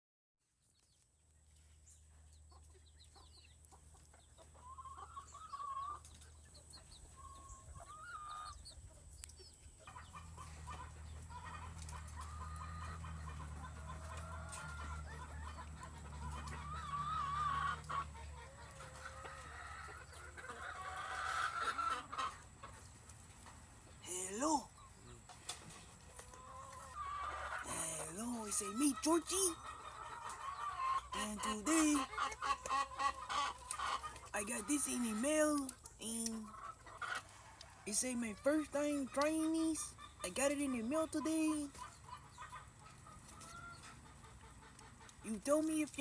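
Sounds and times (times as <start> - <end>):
chickens clucking: 0.6 - 46.0.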